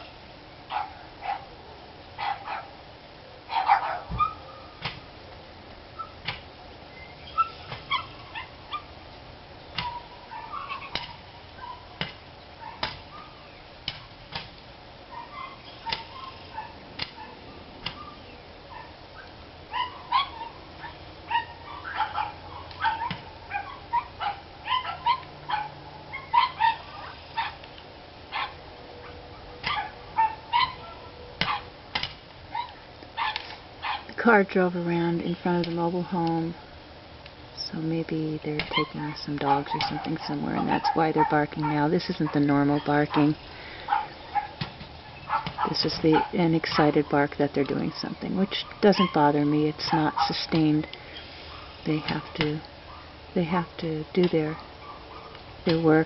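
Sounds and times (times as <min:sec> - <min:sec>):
dogs barking and yipping: 0:00.0 - 0:02.8, 0:03.4 - 0:05.1, 0:06.0 - 0:06.4, 0:07.1 - 0:09.0, 0:09.7 - 0:34.2, 0:38.6 - 0:56.0.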